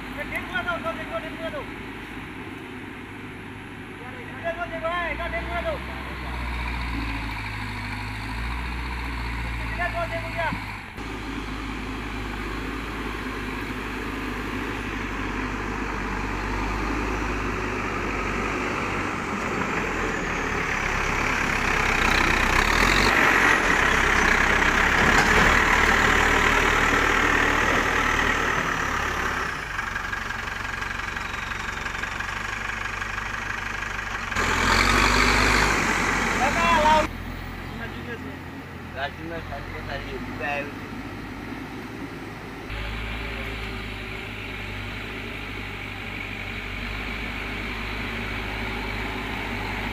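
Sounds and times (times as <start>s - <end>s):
backhoe diesel engine running: 0.0s - 49.9s.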